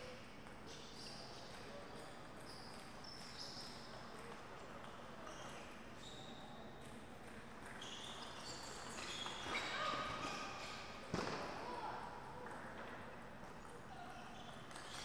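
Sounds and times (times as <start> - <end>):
quiet hall ambience: 0.0 - 15.0.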